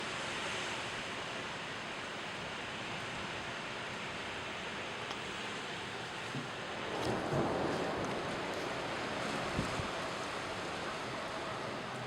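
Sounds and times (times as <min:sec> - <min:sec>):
storm wind with rain: 0:00.0 - 0:12.0.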